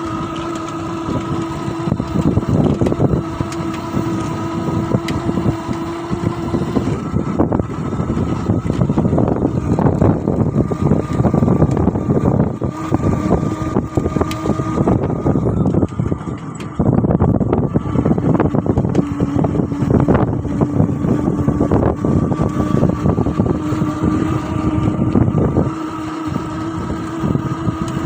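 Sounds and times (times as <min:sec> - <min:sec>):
engine running with clatter: 0:00.0 - 0:28.0.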